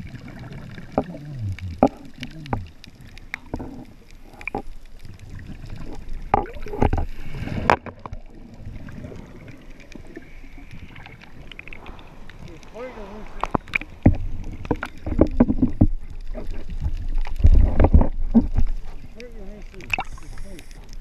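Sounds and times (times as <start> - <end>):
underwater waves churning: 0.0 - 21.0.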